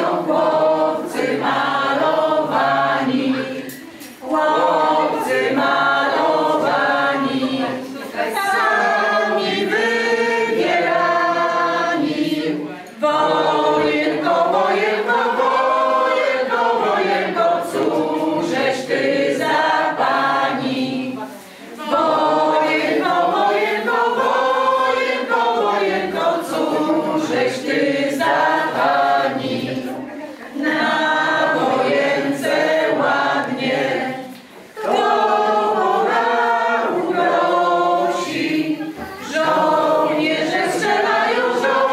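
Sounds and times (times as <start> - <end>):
group singing in unison: 0.0 - 41.9.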